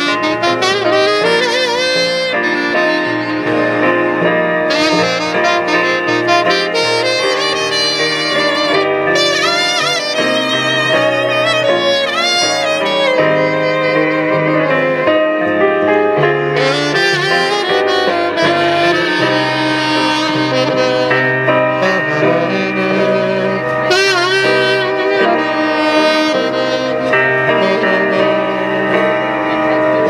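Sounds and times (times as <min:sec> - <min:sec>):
backing track with bass line: 0:00.0 - 0:30.0
saxophone playing jazzy melody: 0:00.0 - 0:30.0.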